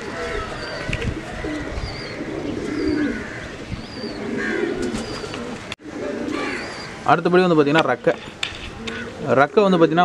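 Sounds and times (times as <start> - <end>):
pigeons cooing: 0.0 - 7.4, 8.7 - 10.0.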